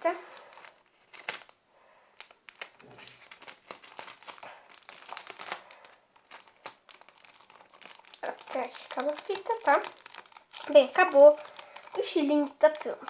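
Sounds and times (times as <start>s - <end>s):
adhesive tape crackling and ripping: 0.0s - 1.6s, 2.2s - 13.0s.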